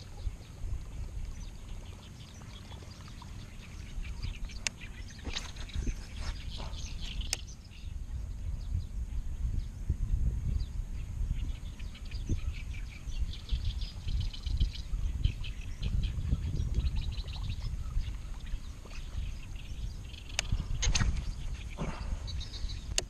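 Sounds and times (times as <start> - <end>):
birds chirping: 0.0 - 23.0
wind rumble on microphone: 0.0 - 23.0.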